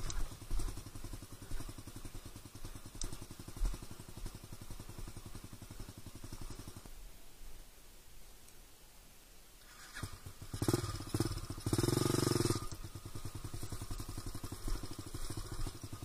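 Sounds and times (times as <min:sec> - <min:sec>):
motorcycle engine running: 0:00.0 - 0:06.9, 0:09.8 - 0:16.0.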